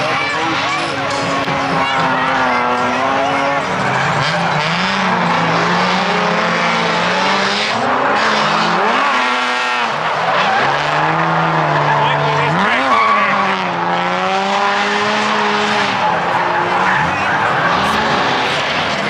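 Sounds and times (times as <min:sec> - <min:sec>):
car engine revving: 0:00.0 - 0:19.0
tires squealing and skidding: 0:00.0 - 0:19.0.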